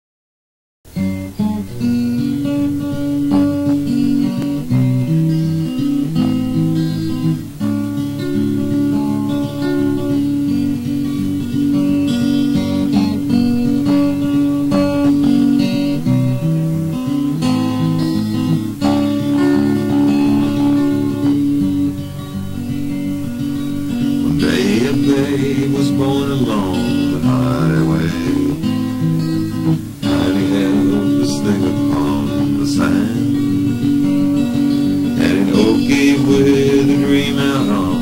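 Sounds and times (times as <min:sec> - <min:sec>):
acoustic guitar playing: 0:00.9 - 0:38.0.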